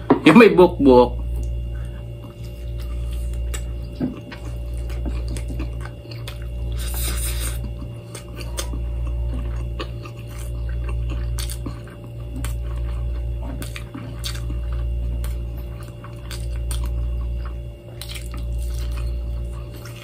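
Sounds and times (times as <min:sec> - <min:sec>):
low hum: 0:00.0 - 0:20.0
close chewing and mouth sounds: 0:01.2 - 0:20.0.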